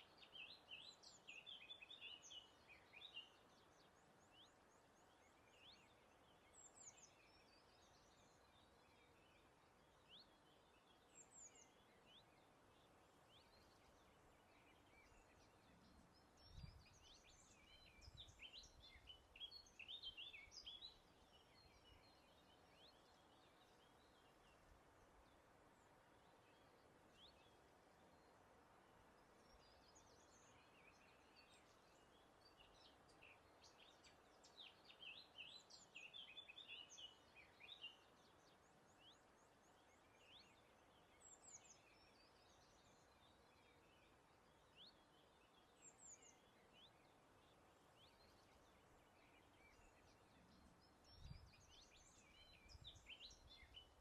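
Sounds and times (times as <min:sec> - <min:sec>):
soft breeze: 0:00.0 - 0:54.0
songbirds chirping: 0:00.0 - 0:54.0.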